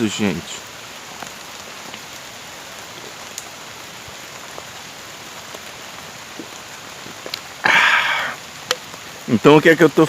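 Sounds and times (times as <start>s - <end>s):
rain hissing on vegetation: 0.0s - 10.0s
single raindrops ticking: 0.7s - 9.3s.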